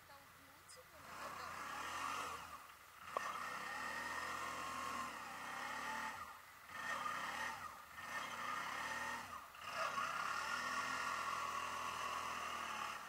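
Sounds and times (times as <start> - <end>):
quad bike engine under throttle: 0.8 - 13.0.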